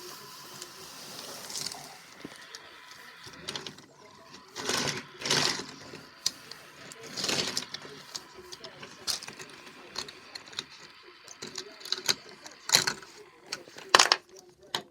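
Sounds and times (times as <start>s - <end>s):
toy train motor whirring: 0.0s - 14.9s.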